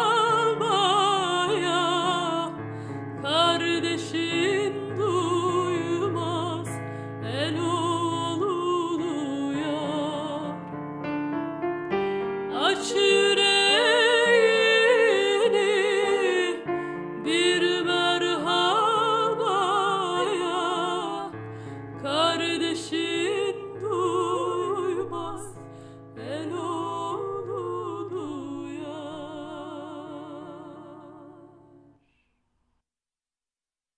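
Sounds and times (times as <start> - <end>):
woman singing with vibrato: 0.0 - 2.6, 3.2 - 10.7, 12.5 - 21.4, 22.0 - 31.9
piano accompaniment: 0.0 - 31.7.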